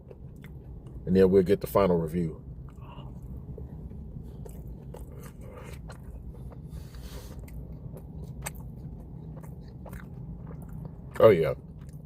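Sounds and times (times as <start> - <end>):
person chewing and biting food: 0.0 - 1.0, 2.6 - 12.0
low hum inside a car: 0.0 - 12.0.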